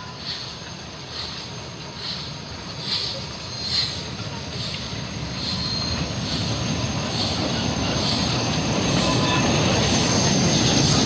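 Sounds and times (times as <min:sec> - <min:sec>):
steam train rumbling: 0:00.0 - 0:11.0.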